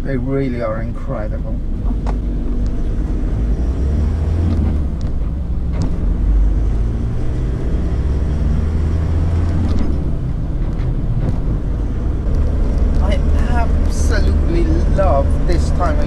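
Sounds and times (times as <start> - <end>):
engine and road rumble in cab: 0.0 - 16.0.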